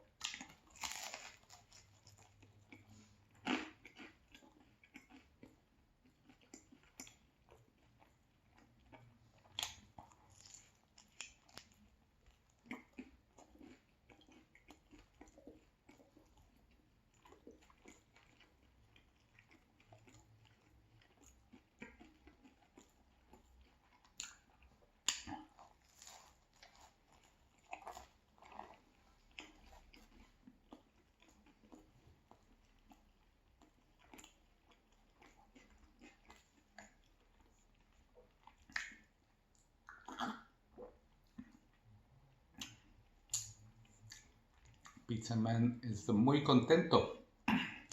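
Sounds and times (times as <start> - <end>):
chewing and biting pizza: 0.0 - 45.1.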